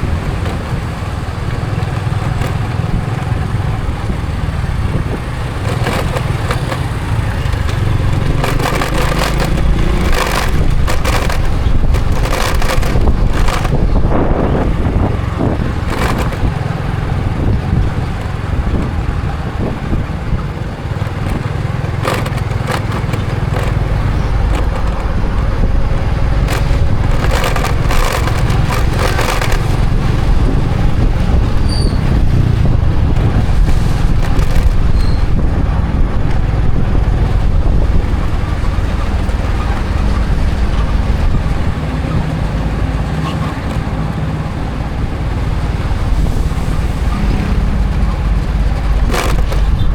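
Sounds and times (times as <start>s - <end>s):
motorcycle engine running: 0.0s - 49.9s
wind and road noise: 0.0s - 49.9s.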